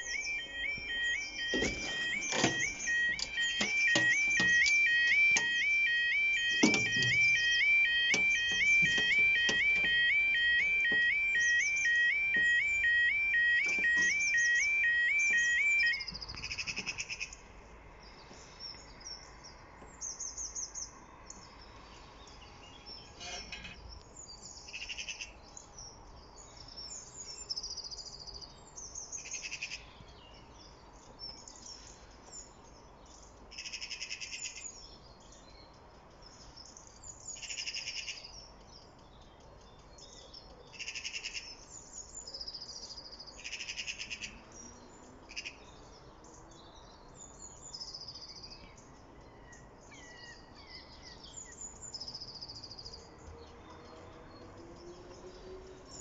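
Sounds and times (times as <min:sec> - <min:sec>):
songbirds trilling: 0:00.0 - 0:56.0.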